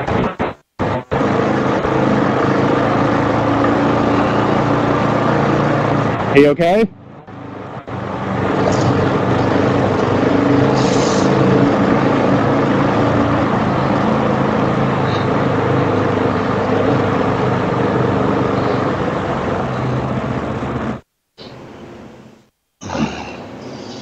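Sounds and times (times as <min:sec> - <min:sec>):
motorcycle engine running: 0:00.0 - 0:06.4, 0:07.0 - 0:21.0
wind and road noise: 0:00.0 - 0:22.4.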